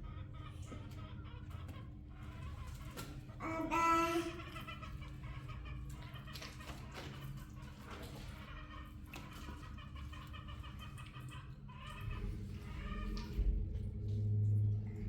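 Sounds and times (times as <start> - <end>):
chickens clucking: 0.0 - 13.7
low steady hum: 0.0 - 15.0.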